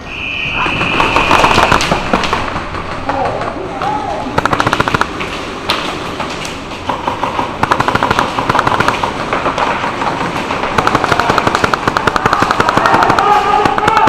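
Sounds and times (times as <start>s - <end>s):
bb guns firing rapid bursts: 0.6s - 3.5s, 4.3s - 14.0s.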